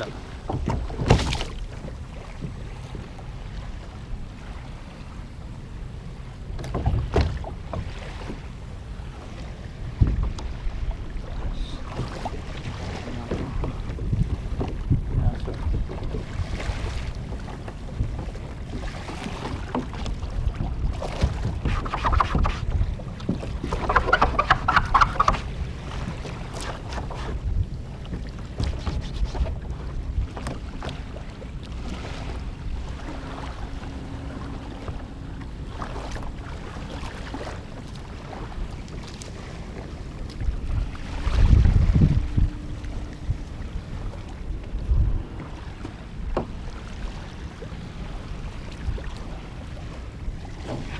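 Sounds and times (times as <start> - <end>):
wind buffeting microphone: 6.3 - 50.9.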